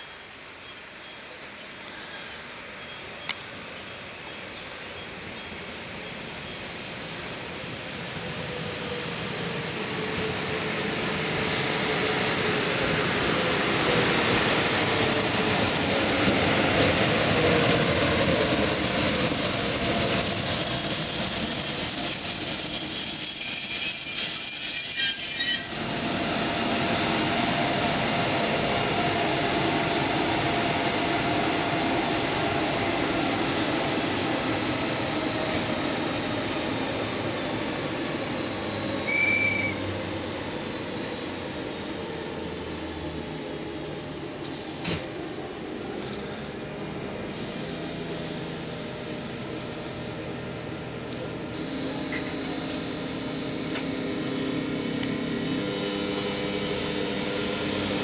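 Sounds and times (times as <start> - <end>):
high squeal of train brakes: 0.0 - 58.0
locomotive humming: 0.0 - 58.0
train approaching: 0.0 - 58.0.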